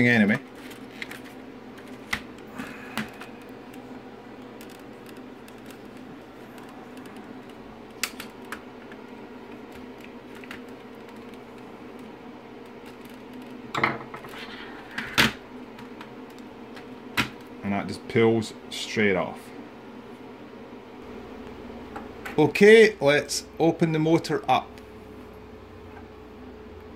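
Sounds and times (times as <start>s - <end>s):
steady background hum: 0.0s - 26.9s.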